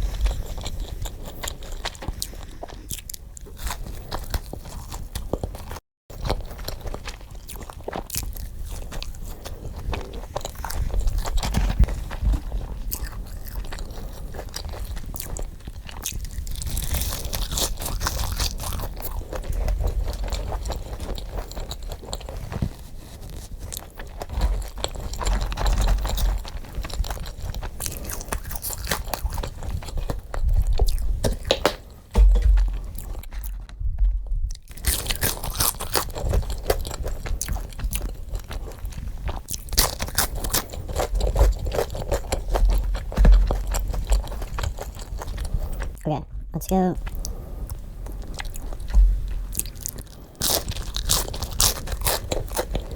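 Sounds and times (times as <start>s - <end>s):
crunchy bites and chewing: 0.0s - 46.0s, 47.0s - 52.9s.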